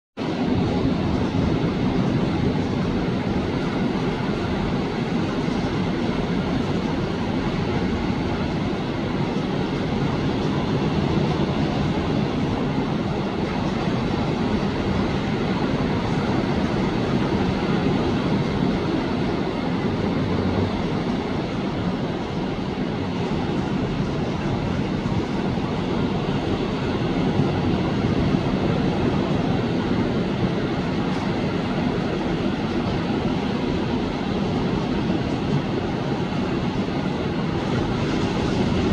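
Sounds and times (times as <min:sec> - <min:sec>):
ocean surf rushing: 0:00.2 - 0:38.9.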